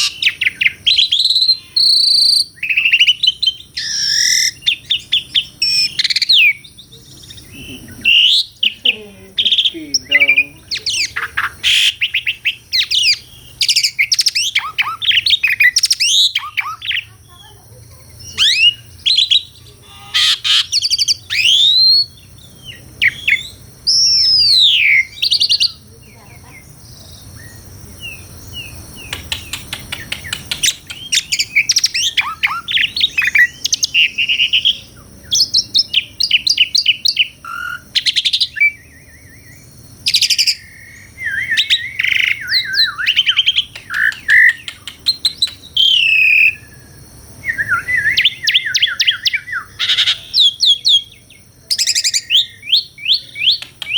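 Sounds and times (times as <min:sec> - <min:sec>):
bird singing whistles and trills: 0:00.0 - 0:53.9.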